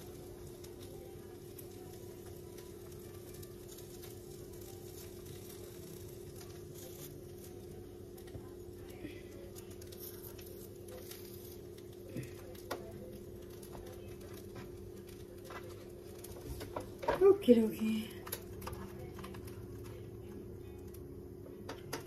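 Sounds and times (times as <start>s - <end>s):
steady low hum: 0.0s - 22.0s
hands tapping bread on grill: 0.4s - 17.5s, 18.2s - 22.0s.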